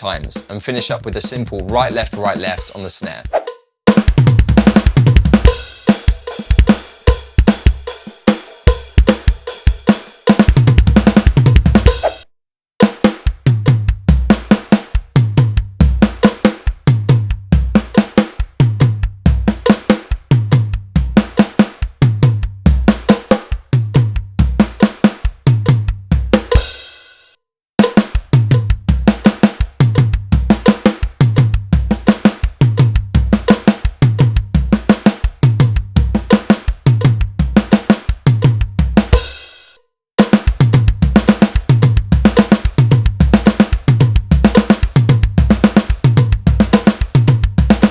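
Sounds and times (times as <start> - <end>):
acoustic drum kit playing: 0.0 - 12.2, 12.8 - 27.1, 27.8 - 47.9.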